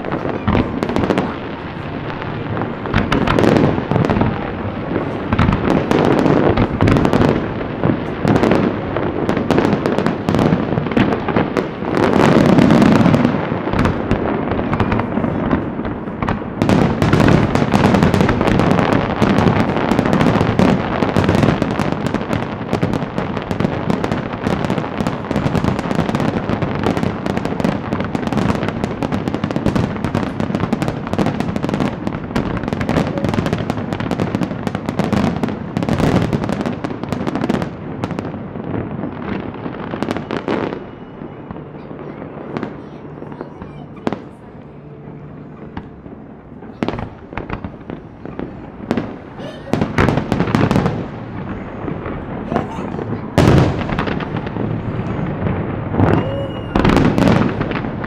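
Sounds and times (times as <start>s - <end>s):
fireworks crackling: 0.0s - 58.0s
fireworks shells booming: 0.0s - 58.0s.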